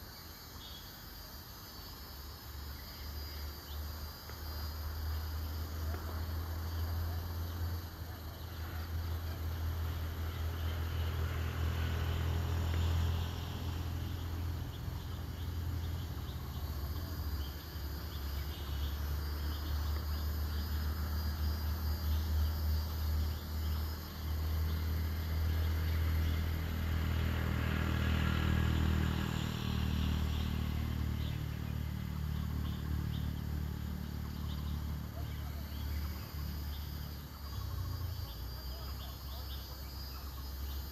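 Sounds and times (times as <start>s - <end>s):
vehicle engine rumbling: 3.9s - 40.9s.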